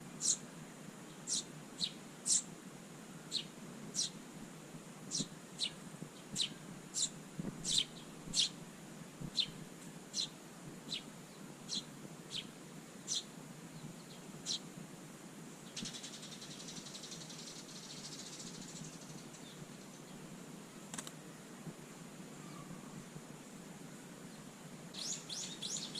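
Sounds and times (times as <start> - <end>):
songbird chirping: 0.0 - 4.2, 5.1 - 14.7, 15.6 - 23.1, 24.0 - 25.9.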